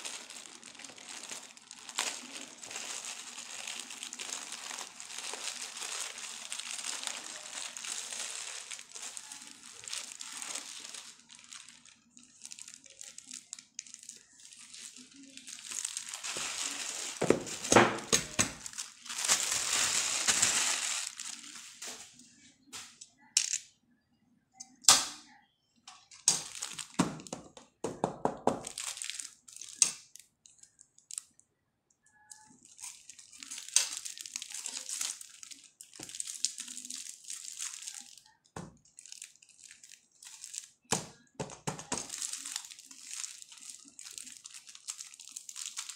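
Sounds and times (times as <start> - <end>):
plastic bag crinkling and tearing: 0.0 - 22.2, 26.2 - 27.4, 28.5 - 31.3, 32.3 - 45.9.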